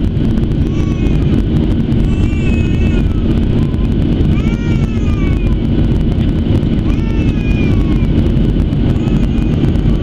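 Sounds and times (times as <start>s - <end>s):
airplane cabin engine roar: 0.0s - 10.0s.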